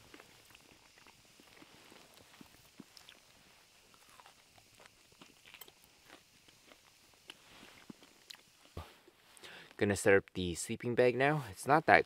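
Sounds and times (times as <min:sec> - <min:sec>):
faint chewing: 0:00.0 - 0:09.7.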